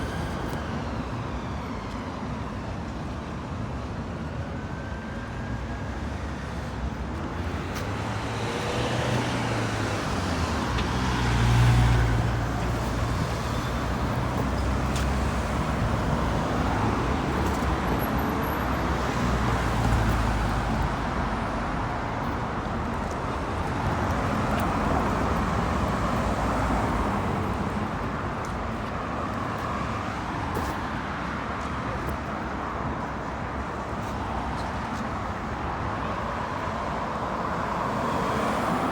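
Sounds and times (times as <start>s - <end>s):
vehicles passing: 5.8s - 38.9s.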